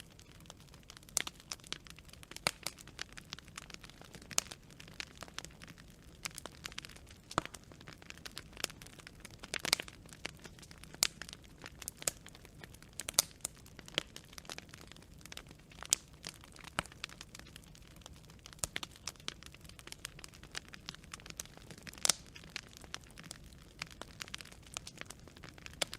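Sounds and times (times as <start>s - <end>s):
firewood crackling and popping: 0.0s - 25.9s
soft hiss of flames: 0.0s - 25.9s.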